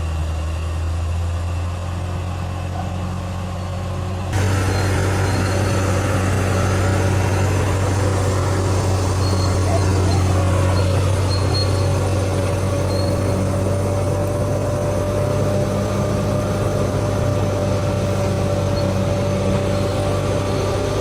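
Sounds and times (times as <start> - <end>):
bulldozer diesel engine drone: 0.0 - 21.0.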